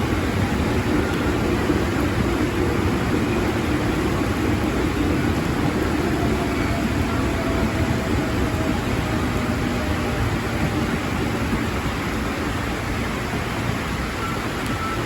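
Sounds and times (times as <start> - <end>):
electric train rumble and hiss: 0.0 - 15.0.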